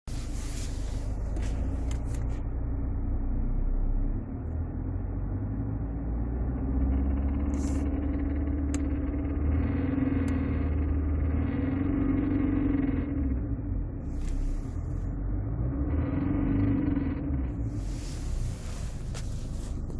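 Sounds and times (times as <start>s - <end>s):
car cabin engine drone: 0.0s - 19.9s.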